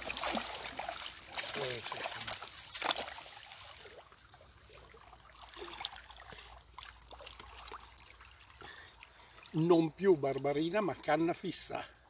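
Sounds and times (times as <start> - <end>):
river water trickling and splashing: 0.0 - 12.0.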